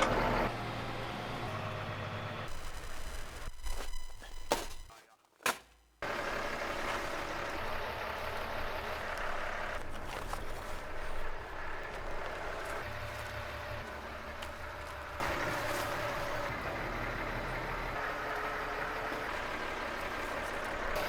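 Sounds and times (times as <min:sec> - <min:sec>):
tractor engine running: 0:00.0 - 0:04.6, 0:05.9 - 0:21.0.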